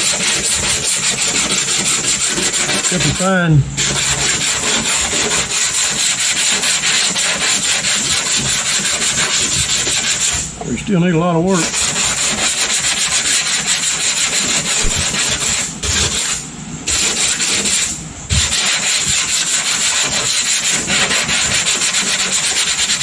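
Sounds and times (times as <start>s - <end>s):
sanding block rubbing on panel: 0.0s - 10.6s, 11.5s - 23.0s.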